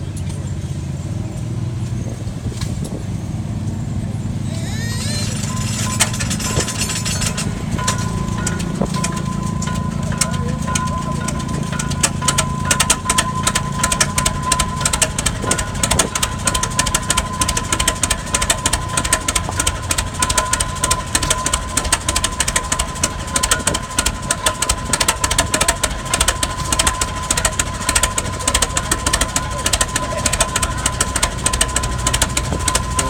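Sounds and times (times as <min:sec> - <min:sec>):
tractor engine running: 0:00.0 - 0:33.0
steady high tone: 0:04.4 - 0:33.0.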